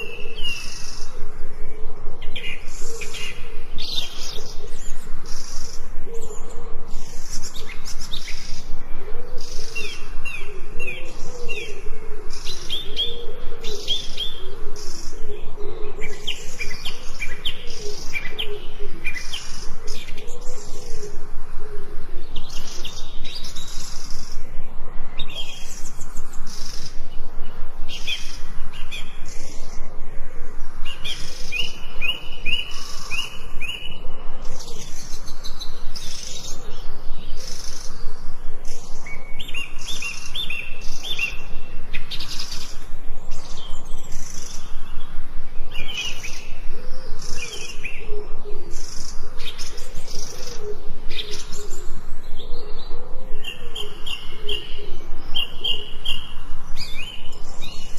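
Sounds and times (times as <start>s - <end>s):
low bird call: 0.0s - 57.9s
songbirds chirping: 0.0s - 57.9s.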